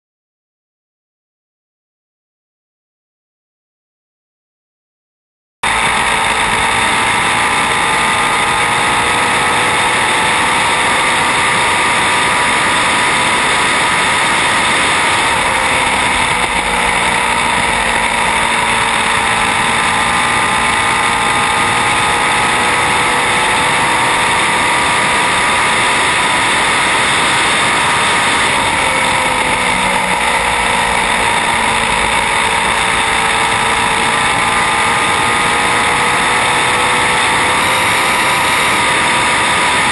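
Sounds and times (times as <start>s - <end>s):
race car engine at high revs: 5.6s - 39.9s.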